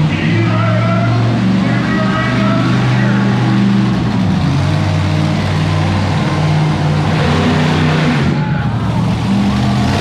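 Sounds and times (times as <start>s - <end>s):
monster truck engine running: 0.0s - 10.0s.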